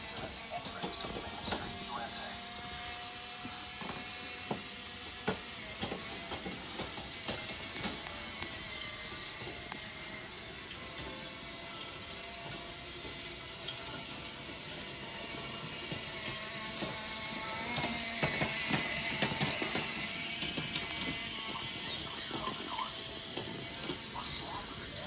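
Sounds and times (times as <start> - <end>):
toy train motor whirring: 0.0 - 25.0.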